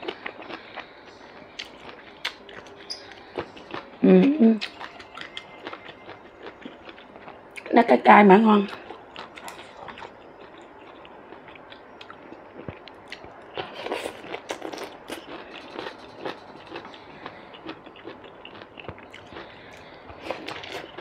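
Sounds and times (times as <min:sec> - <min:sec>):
person chewing food: 0:00.0 - 0:04.0, 0:04.6 - 0:07.7, 0:08.7 - 0:21.0.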